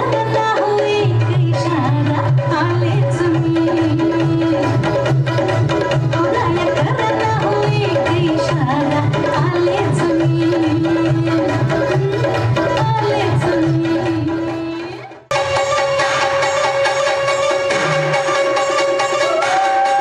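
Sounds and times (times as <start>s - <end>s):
different music: 0.0s - 20.0s
folk melody over hand drum: 0.0s - 20.0s.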